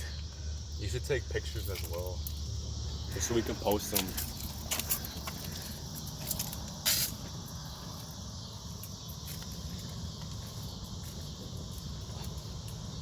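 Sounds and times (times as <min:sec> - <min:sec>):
insects hissing: 0:00.0 - 0:13.0.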